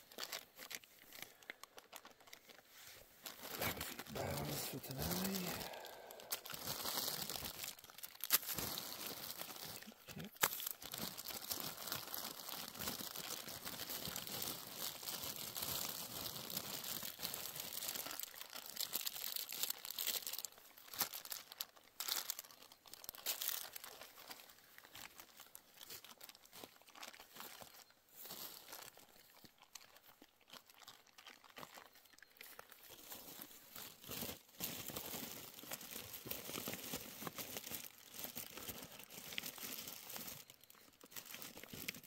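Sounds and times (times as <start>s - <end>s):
foil pouch crinkling: 0.0s - 42.0s.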